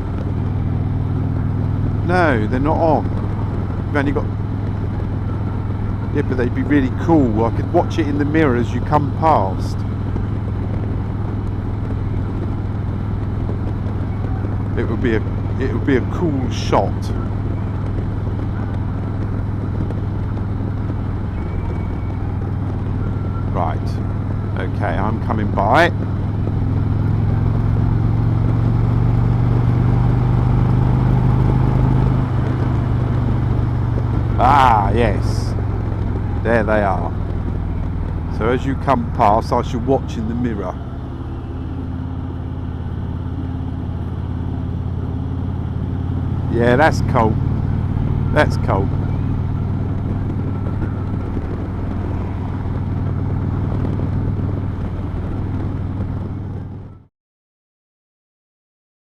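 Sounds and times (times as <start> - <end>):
motorcycle engine accelerating: 0.0 - 57.1
road and wind noise: 0.0 - 57.1.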